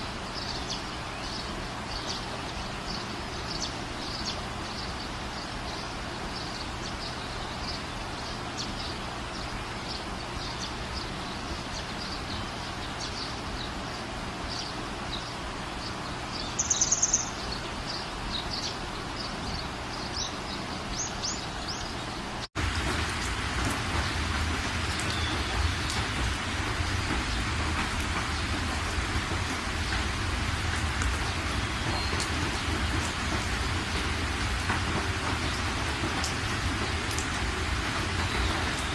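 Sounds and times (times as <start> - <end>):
rain-like hiss: 0.0 - 38.9
steady hiss: 0.0 - 38.9.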